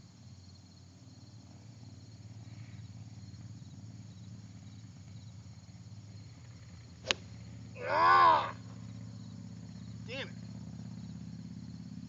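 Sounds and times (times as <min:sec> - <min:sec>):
insects chirping in pulsing trill: 0:00.0 - 0:12.0
low steady rumble: 0:00.0 - 0:12.0.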